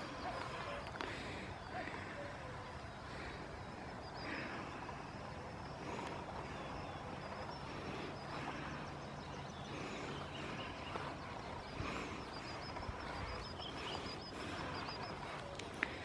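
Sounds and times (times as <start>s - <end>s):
faint low hum: 0.0s - 16.0s
small birds singing: 0.0s - 16.0s
steady outdoor background hiss: 0.0s - 16.0s.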